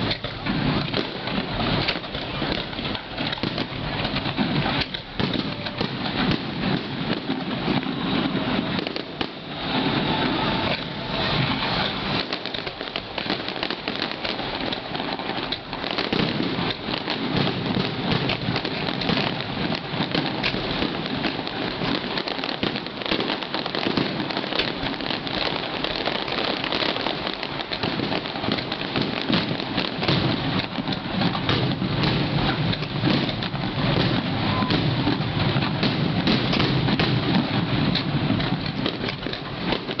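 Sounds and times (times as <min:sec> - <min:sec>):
fireworks barrage: 0:00.0 - 0:40.0.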